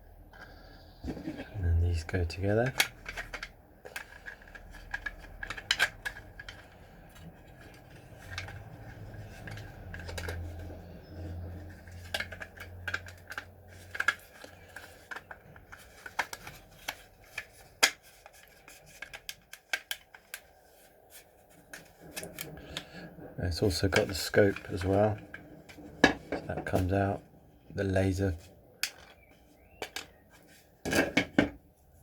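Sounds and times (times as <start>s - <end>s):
plastic parts clicking and knocking: 1.0s - 20.5s, 23.6s - 27.2s, 28.2s - 31.6s.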